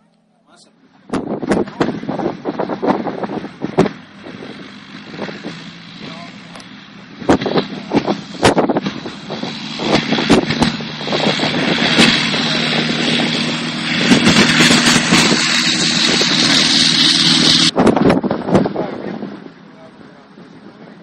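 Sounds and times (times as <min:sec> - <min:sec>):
propeller engine running: 0:00.0 - 0:21.0.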